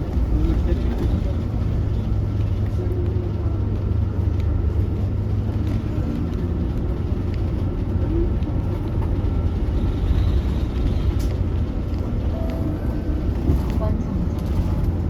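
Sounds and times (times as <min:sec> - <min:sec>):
coach engine rumbling: 0:00.0 - 0:15.0.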